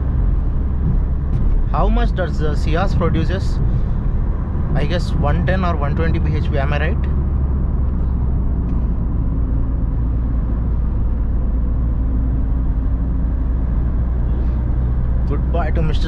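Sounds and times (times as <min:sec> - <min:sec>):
car interior road drone: 0:00.0 - 0:16.0.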